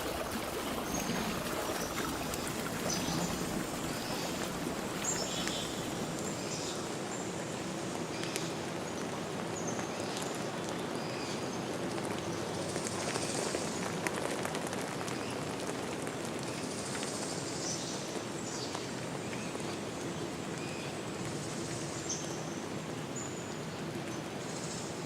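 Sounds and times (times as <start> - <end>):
stream flowing over rocks: 0.0 - 25.0.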